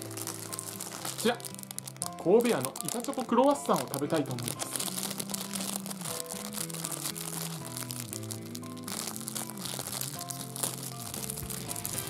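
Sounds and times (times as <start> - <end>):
background music with held notes: 0.0 - 12.0
plastic bag crinkling: 0.0 - 12.0.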